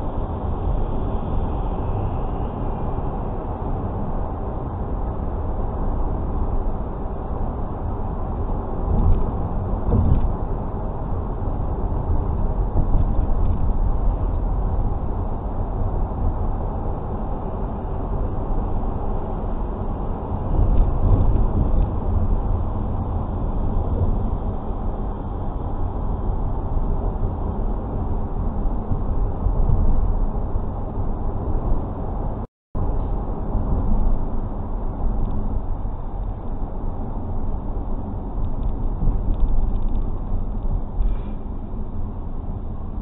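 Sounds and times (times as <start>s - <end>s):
car driving on road: 0.0s - 43.0s.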